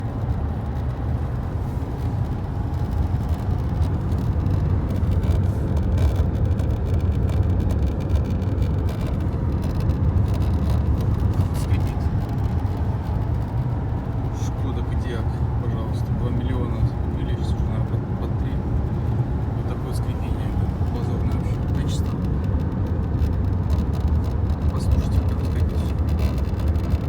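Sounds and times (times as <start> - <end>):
dashboard creaking and ticking: 0.0 - 27.0
low road and engine rumble: 0.0 - 27.0.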